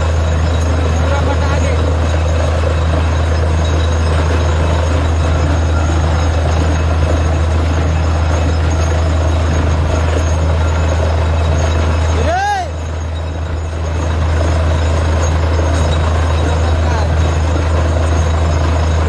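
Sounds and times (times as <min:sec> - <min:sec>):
drilling rig running loudly: 0:00.0 - 0:19.0.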